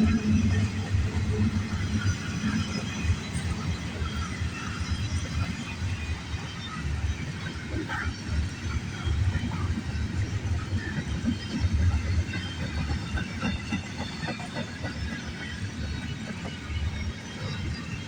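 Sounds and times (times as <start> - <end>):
freight train rumble: 0.0 - 18.0.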